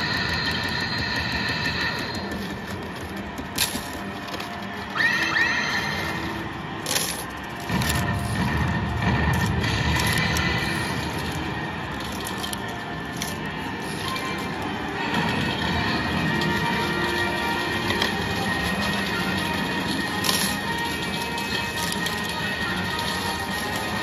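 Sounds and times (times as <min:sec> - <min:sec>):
game music: 0:00.0 - 0:24.0.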